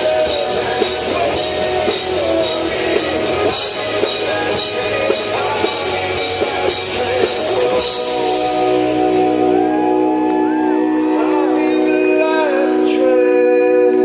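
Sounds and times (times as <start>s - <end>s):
drum kit: 0.0s - 12.9s
rock guitar chords: 0.0s - 14.0s.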